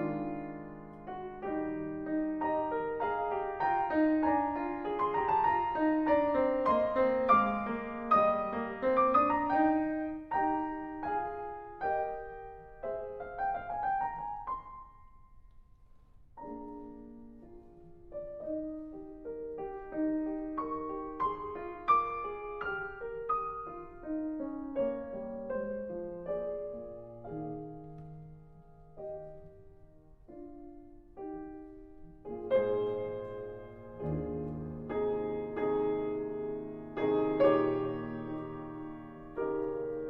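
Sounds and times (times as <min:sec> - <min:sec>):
gentle piano music: 0:00.0 - 0:40.0.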